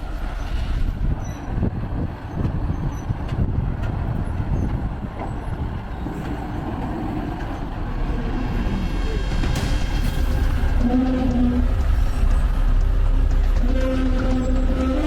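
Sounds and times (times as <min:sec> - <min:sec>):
diesel truck engine rumble: 0:00.0 - 0:15.0.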